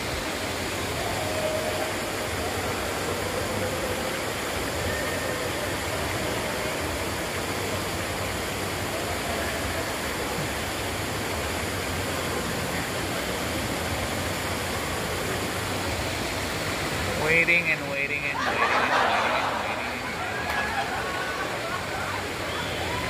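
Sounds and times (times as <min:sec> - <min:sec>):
fountain water splashing into pool: 0:00.0 - 0:23.0.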